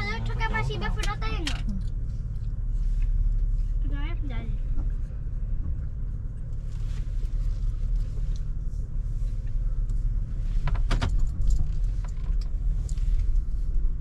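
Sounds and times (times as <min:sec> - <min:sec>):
car rumbling from inside cabin: 0:00.0 - 0:14.0.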